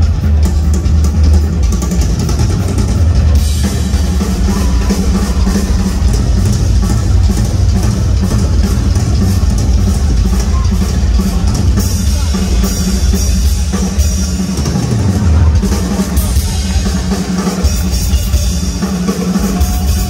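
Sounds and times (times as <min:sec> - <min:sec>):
drum kit solo: 0:00.0 - 0:20.0.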